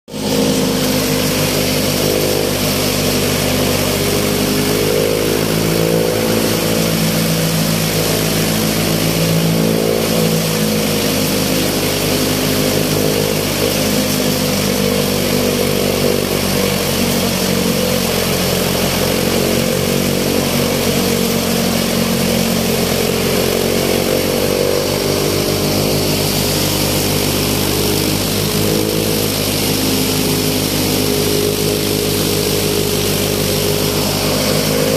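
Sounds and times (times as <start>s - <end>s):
chaff cutter droning: 0.1s - 34.9s
hiss of cut fodder: 0.1s - 34.9s.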